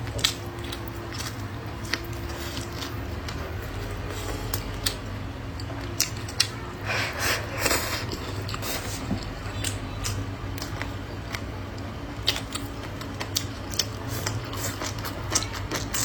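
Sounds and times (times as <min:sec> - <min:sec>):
wet chewing noises: 0:00.0 - 0:16.0.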